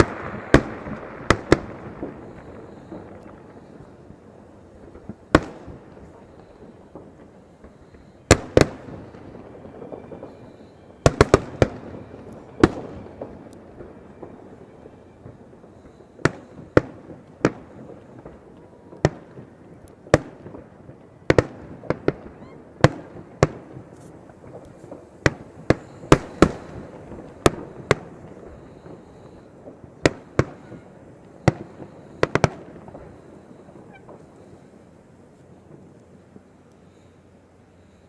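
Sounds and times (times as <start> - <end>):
fireworks bangs: 0.0 - 37.1.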